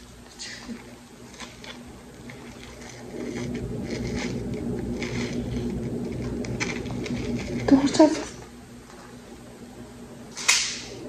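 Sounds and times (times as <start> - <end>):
bread crackling and squishing: 0.0 - 9.0
steady low hum: 0.0 - 11.0.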